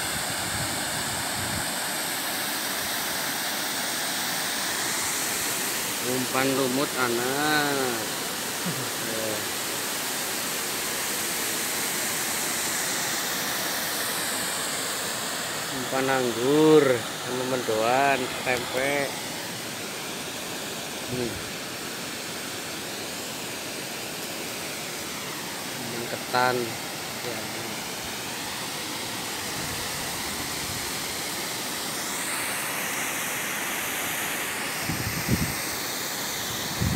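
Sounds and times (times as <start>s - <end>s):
water rushing over weir: 0.0s - 36.9s.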